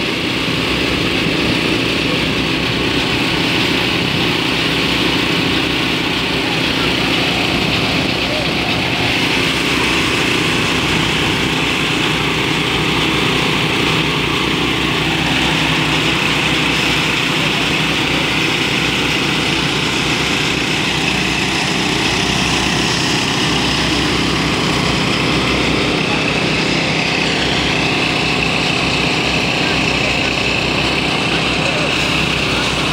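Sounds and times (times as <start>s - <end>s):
small petrol engine running: 0.0s - 32.9s.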